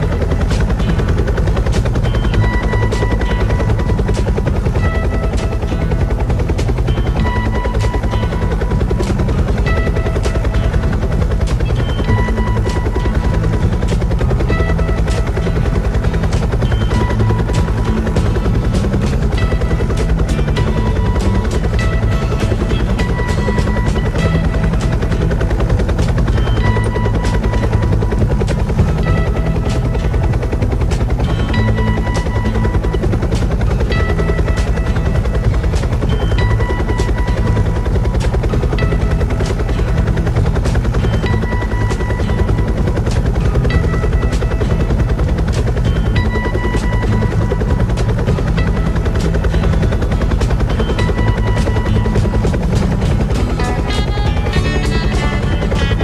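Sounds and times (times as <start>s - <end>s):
helicopter rotor chop: 0.0s - 56.0s
music with high notes: 0.0s - 56.0s.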